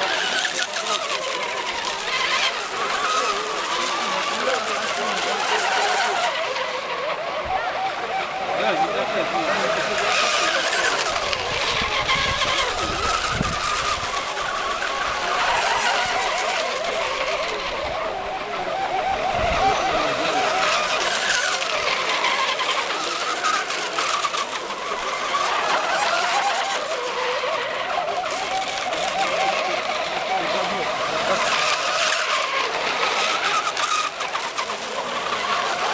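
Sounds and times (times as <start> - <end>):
model boats high whine: 0.0 - 35.9.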